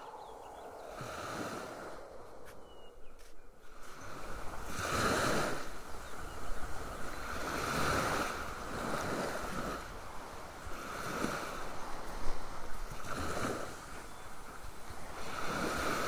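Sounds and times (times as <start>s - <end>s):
surf washing up a beach: 0.0s - 16.0s.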